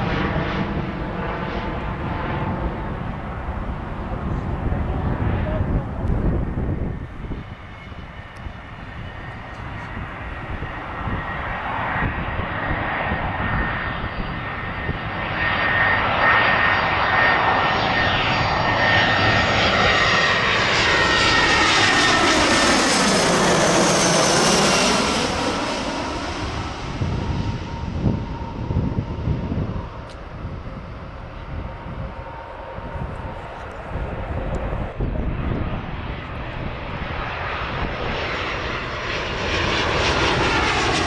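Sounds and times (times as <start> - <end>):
jet airliner flying overhead: 0.0 - 41.0.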